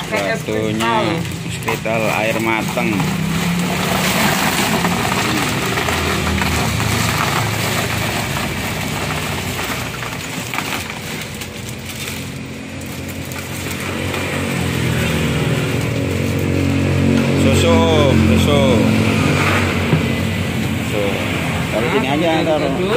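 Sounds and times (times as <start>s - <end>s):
engine humming: 0.0s - 22.9s
ice cubes rattling into bucket: 0.0s - 22.9s.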